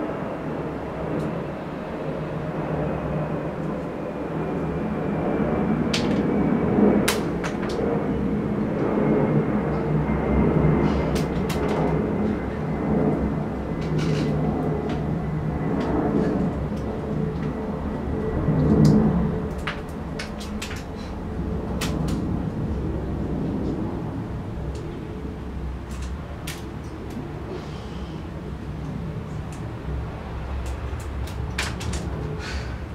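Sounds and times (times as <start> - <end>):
low mechanical rumble: 0.0 - 32.9
faint hum: 3.2 - 32.9.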